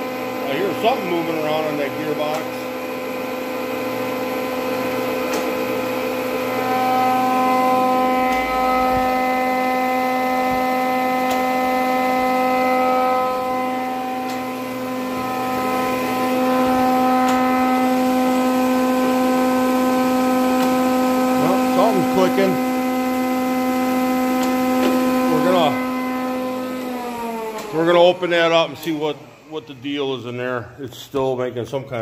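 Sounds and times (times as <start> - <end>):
thickness planer motor hum: 0.0 - 30.6.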